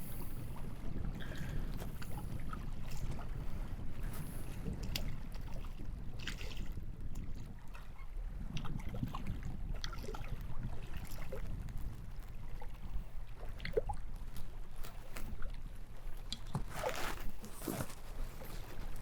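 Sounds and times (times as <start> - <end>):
water lapping against a canoe hull: 0.0 - 19.0.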